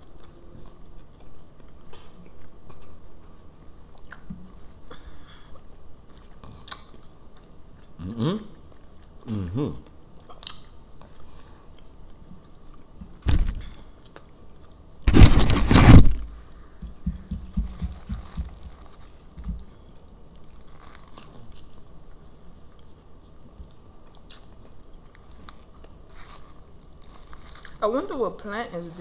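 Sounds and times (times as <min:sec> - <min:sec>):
chewing food: 0:00.0 - 0:04.8, 0:05.4 - 0:15.0, 0:17.3 - 0:28.2.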